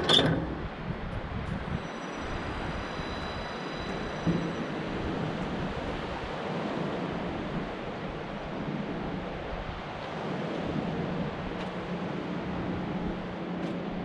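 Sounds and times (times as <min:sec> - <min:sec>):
wind on microphone: 0:00.0 - 0:14.0
ocean surf: 0:01.8 - 0:14.0.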